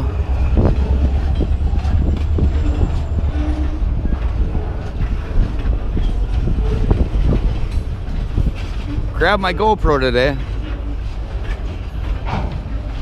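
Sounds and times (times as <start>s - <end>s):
freight cars rumbling past: 0.0s - 13.0s
wheels clacking on rail: 0.0s - 13.0s.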